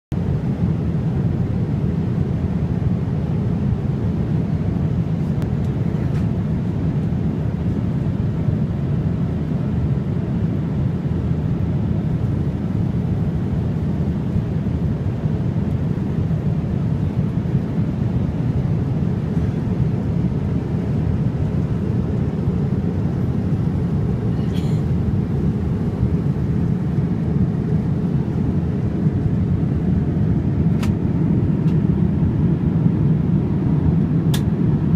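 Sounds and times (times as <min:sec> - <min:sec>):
airplane cabin airflow: 0:00.1 - 0:34.9
jet engine noise: 0:00.1 - 0:34.9.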